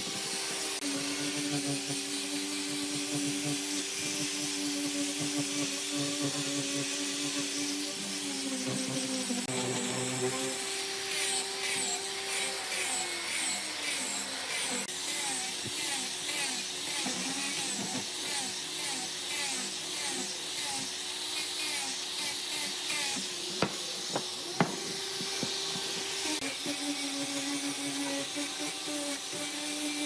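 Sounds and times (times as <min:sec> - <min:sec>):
handheld power tool running: 0:00.0 - 0:30.0.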